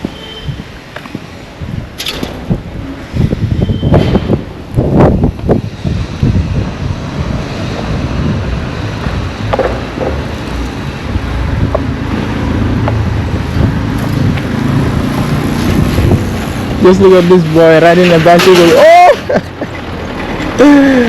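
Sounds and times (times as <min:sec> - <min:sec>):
wind buffeting microphone: 0:00.0 - 0:17.6
road traffic: 0:00.0 - 0:21.0
vehicle engine rumbling: 0:00.0 - 0:21.0.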